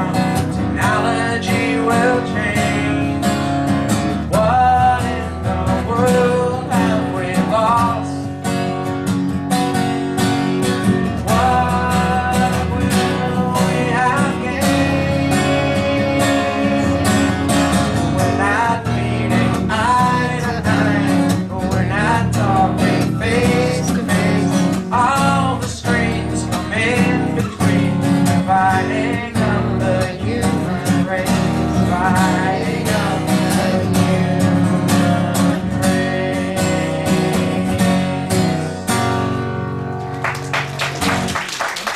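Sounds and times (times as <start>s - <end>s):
person singing: 0.0s - 3.2s, 4.2s - 8.3s, 11.2s - 39.1s
acoustic guitar strummed: 0.0s - 41.4s.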